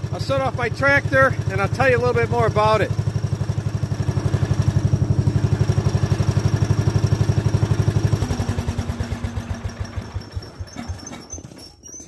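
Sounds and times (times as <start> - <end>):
garden tractor engine running: 0.0 - 12.0.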